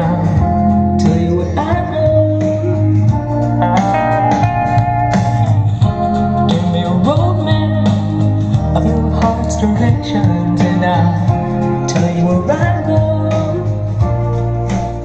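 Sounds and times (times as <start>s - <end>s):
slide guitar music over loudspeaker: 0.0s - 15.0s.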